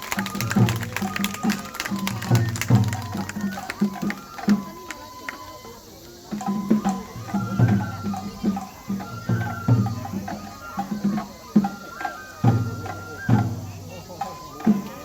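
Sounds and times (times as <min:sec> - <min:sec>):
high flute melody: 0:00.0 - 0:15.0
taiko drums: 0:00.0 - 0:15.0.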